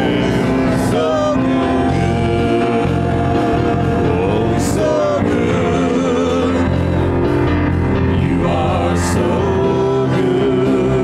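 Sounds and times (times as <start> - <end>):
singers holding wavering notes: 0.0 - 11.0
worship band playing: 0.0 - 11.0.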